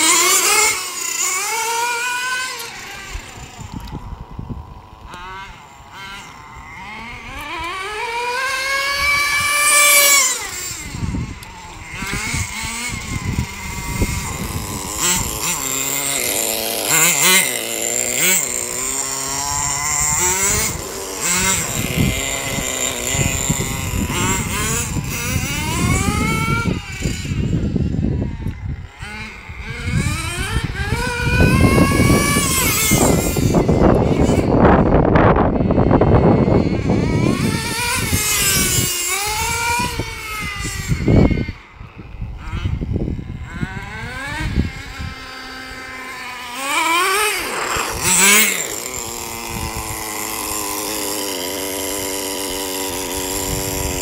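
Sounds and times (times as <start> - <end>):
model truck engine revving: 0.0 - 54.0.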